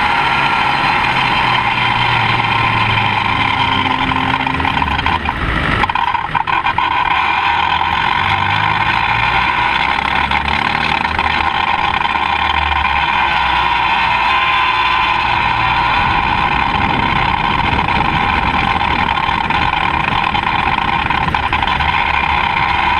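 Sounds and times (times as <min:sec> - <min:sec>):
car engine at low revs: 0:00.0 - 0:22.9
road and wind noise: 0:00.0 - 0:22.9.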